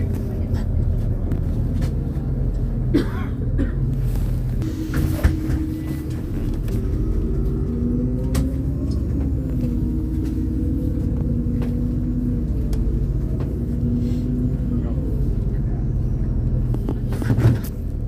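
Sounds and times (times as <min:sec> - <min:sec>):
bus engine and road rumble: 0:00.0 - 0:18.0
faint drivetrain whine: 0:00.0 - 0:18.0.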